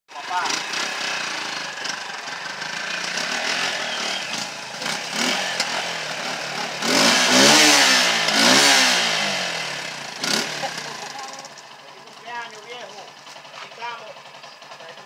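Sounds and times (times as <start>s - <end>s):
motorcycle engine revving: 0.1s - 15.0s.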